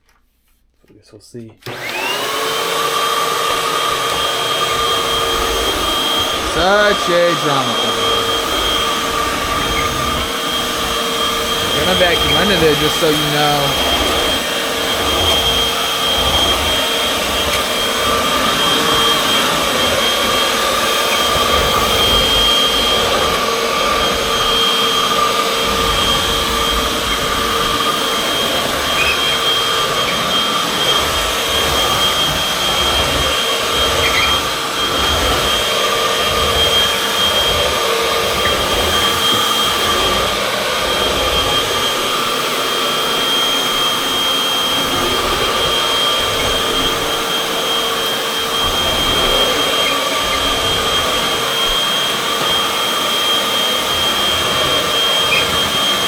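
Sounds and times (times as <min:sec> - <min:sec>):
vacuum cleaner motor whine: 0:01.6 - 0:56.0
vacuum rumbling over floor: 0:01.6 - 0:56.0.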